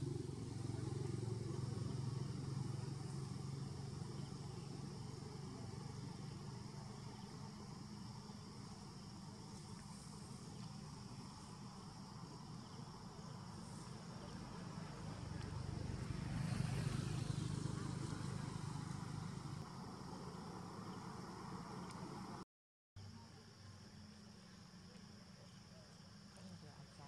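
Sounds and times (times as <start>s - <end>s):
insects droning: 0.0s - 22.4s, 23.0s - 27.0s.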